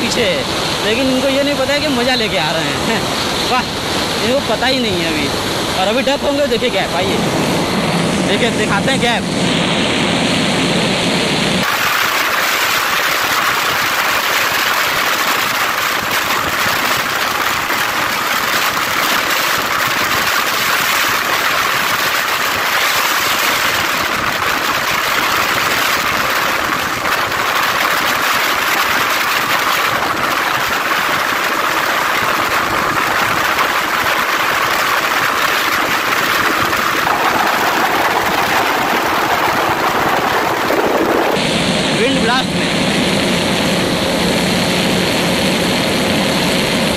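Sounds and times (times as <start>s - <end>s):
wind buffeting microphone: 2.6s - 46.9s.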